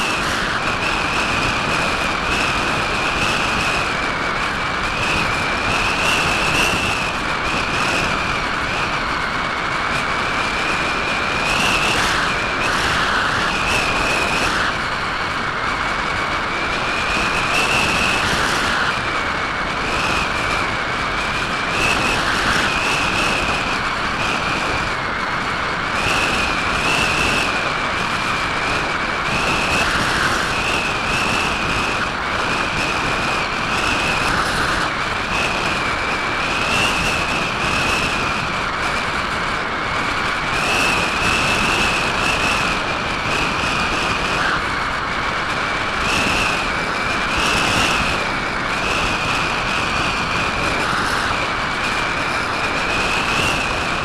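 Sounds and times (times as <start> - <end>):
airflow rush with high whistle: 0.0 - 54.0.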